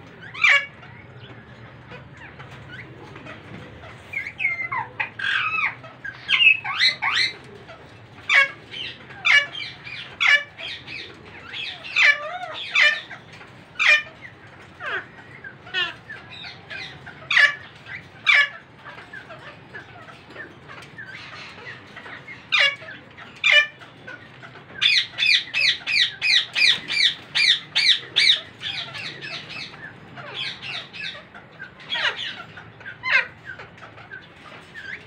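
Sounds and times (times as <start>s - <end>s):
parrots giving sharp calls: 1.8s - 35.0s.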